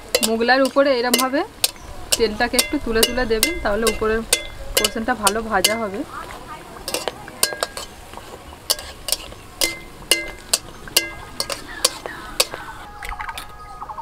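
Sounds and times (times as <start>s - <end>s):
metal spatula clinking on metal pan: 0.0s - 6.1s, 6.9s - 12.6s
oil frying: 0.0s - 13.6s.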